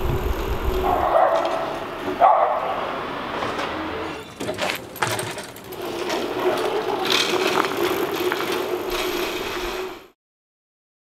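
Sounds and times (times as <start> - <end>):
mechanical rattle and hum: 0.0 - 2.2, 3.3 - 10.1.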